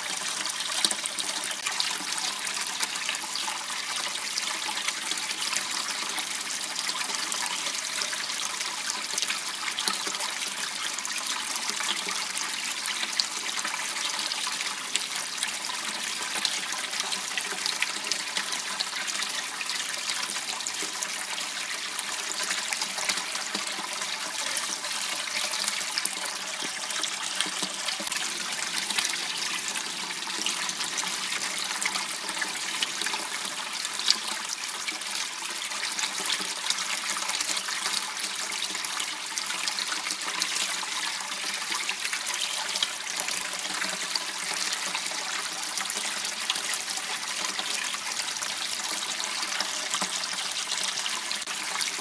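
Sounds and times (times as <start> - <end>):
water flowing in small waterway: 0.0 - 52.0.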